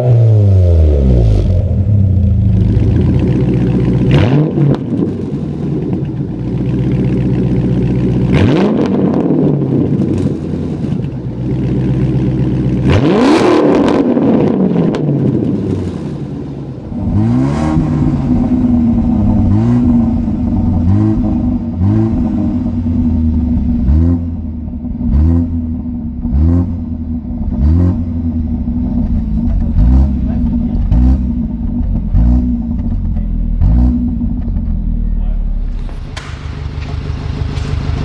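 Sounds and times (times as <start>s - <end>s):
four-cylinder engine blipping revs: 0.0s - 35.0s, 36.0s - 38.0s
vee eight engine revving: 0.0s - 38.0s.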